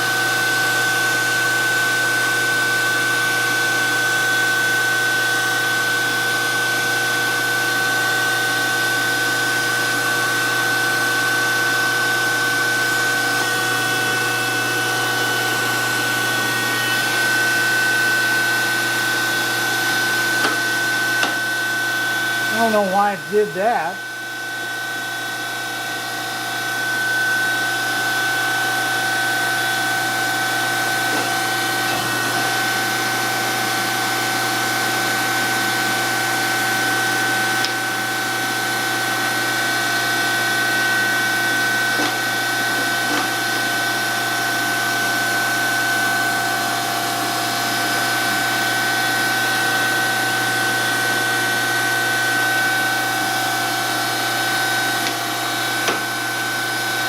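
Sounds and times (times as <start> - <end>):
surface grinder whine: 6.6 - 23.3, 23.9 - 57.0.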